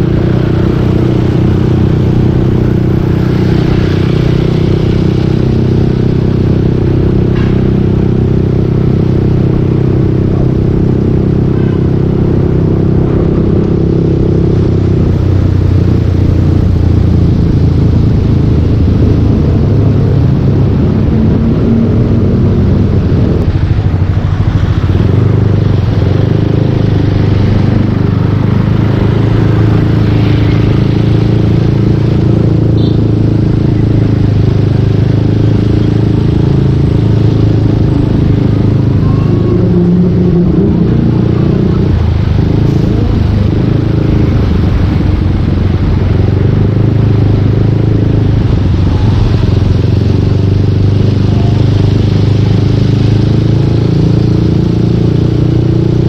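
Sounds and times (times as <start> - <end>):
scooter engine running: 0.0 - 56.0.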